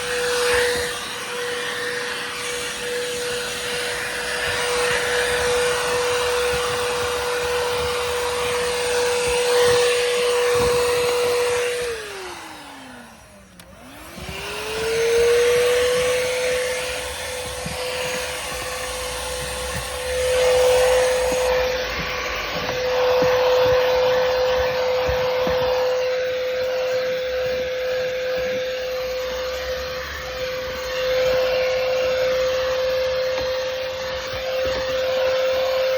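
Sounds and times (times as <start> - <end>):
hand vacuum motor whine: 0.0 - 35.9.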